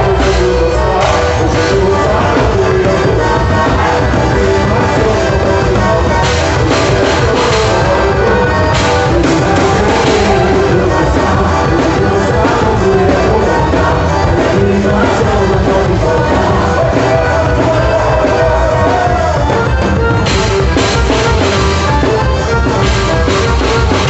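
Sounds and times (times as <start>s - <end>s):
loud band music: 0.0s - 24.0s.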